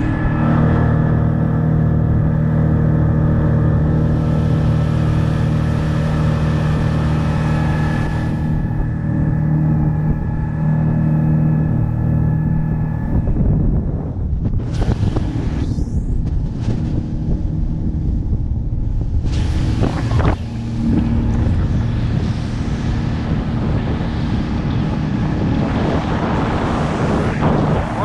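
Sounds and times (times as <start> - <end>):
outboard motor hum: 0.0 - 28.0
water rushing along hull: 0.0 - 28.0
wind buffeting microphone: 0.0 - 28.0.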